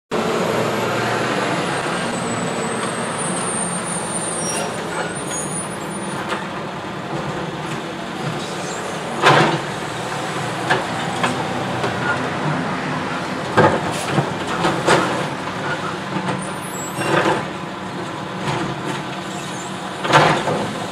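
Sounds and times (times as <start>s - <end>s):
garbage truck diesel engine: 0.1s - 20.9s.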